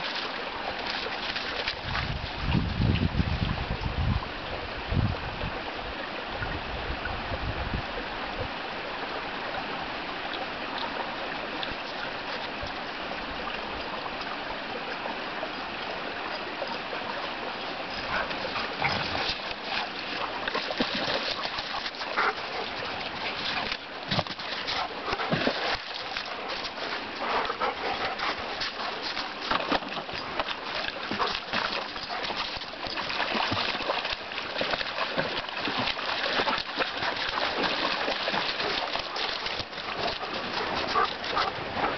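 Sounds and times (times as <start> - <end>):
dogs splashing through water: 0.0 - 3.4, 10.6 - 41.9
shallow stream running: 0.0 - 41.9.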